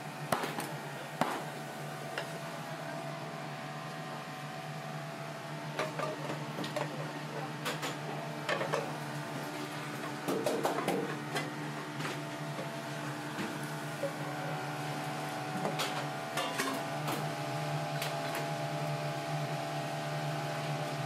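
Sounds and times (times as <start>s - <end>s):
kitchen equipment hum: 0.0s - 21.0s.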